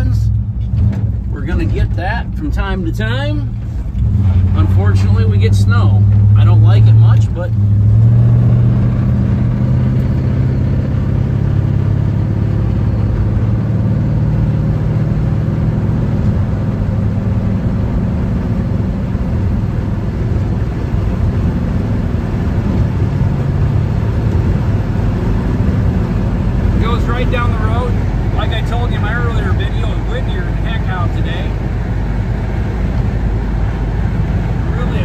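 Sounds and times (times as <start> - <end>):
low engine drone: 0.0 - 35.0
road noise: 0.0 - 35.0.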